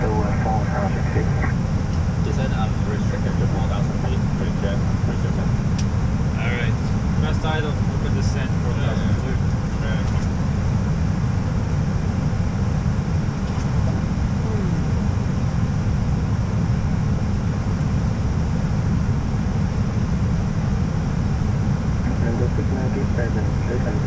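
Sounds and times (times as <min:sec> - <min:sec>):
aircraft airflow and engine noise: 0:00.0 - 0:24.0.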